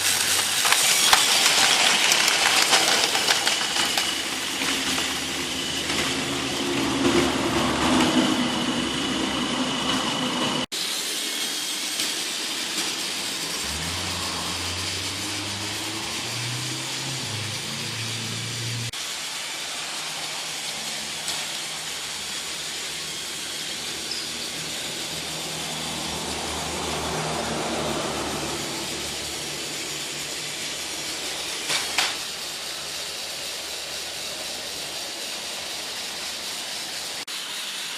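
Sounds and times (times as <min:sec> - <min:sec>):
toy train motor whirring: 0:00.0 - 0:37.9
wheels rattling on plastic track: 0:00.0 - 0:37.9.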